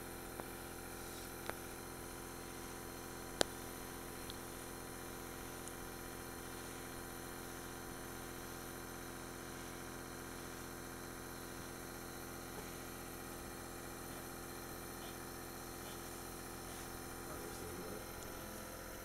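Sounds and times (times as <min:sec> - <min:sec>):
compressor humming: 0:00.0 - 0:19.0.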